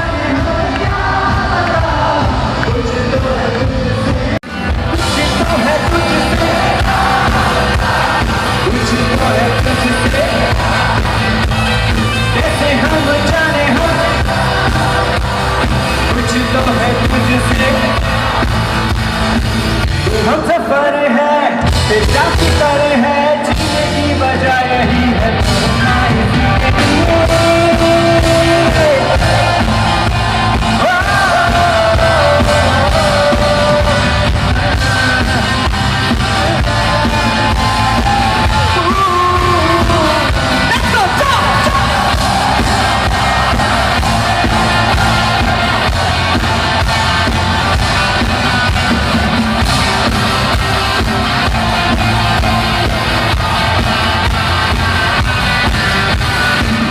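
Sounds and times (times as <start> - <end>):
lead singer singing: 0.0 - 56.8
live band playing: 0.0 - 56.9
people shouting and yelling: 4.6 - 23.4, 24.0 - 56.9.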